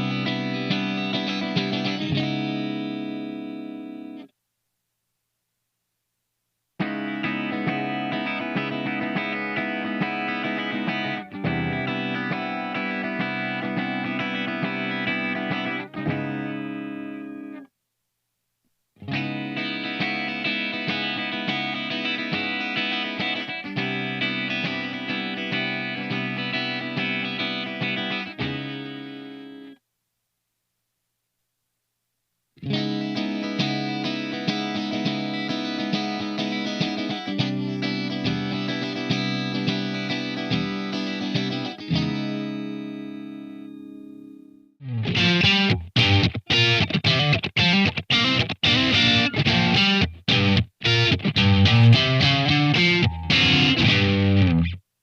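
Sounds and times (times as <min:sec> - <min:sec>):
distorted electric guitar strumming: 0:00.0 - 0:04.3, 0:06.8 - 0:17.6, 0:19.0 - 0:29.8, 0:32.6 - 0:54.9.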